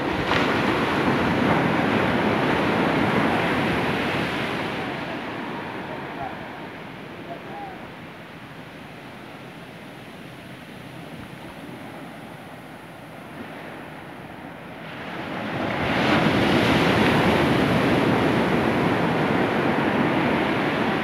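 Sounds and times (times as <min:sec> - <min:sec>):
wave breaking with rushing foam: 0:00.0 - 0:08.2, 0:10.6 - 0:21.0
ocean surf on beach: 0:00.0 - 0:21.0.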